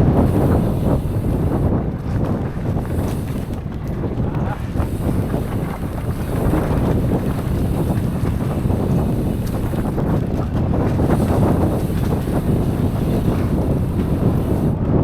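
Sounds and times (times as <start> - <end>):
bike knocks and rattles: 0.0 - 15.0
wind buffeting microphone: 0.0 - 15.0.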